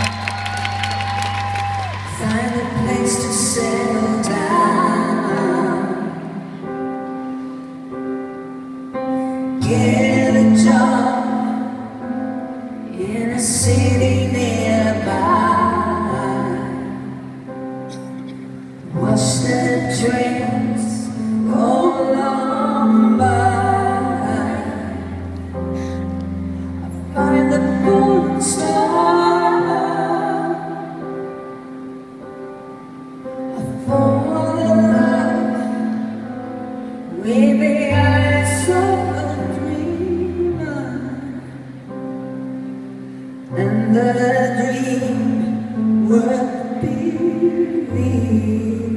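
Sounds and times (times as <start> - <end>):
woman singing pop ballad: 0.0 - 6.7, 9.1 - 18.1, 18.8 - 31.4, 33.5 - 42.2, 43.5 - 48.9
keyboard accompaniment: 0.0 - 48.9.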